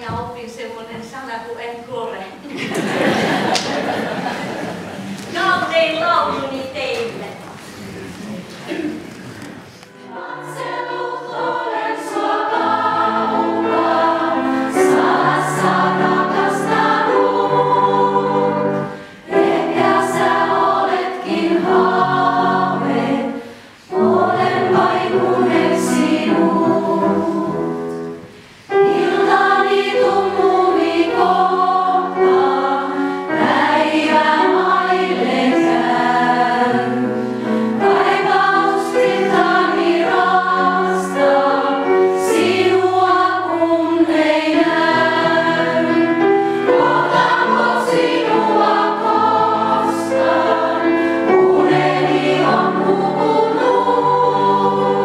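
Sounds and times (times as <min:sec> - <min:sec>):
choir singing: 0:02.5 - 0:05.2, 0:09.9 - 0:55.0.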